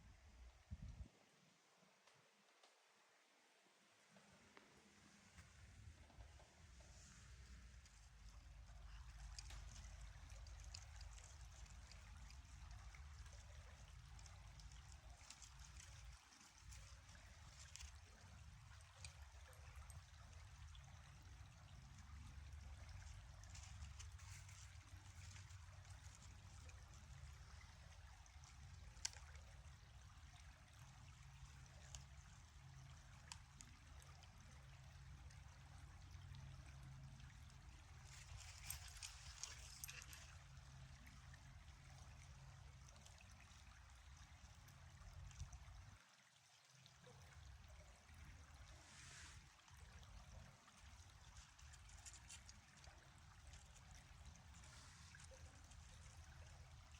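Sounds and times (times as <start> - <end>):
river water flowing: 4.2 - 56.9.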